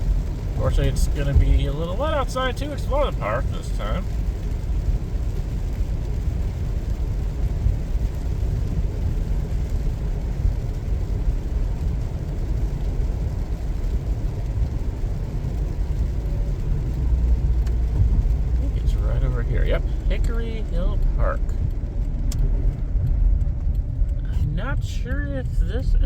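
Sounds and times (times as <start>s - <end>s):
tyres and engine rumble: 0.0s - 26.0s.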